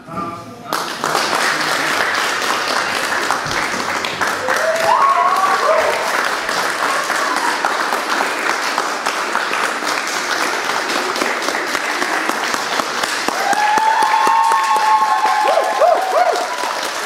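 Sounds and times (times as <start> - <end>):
audience applauding: 0.7 - 17.0.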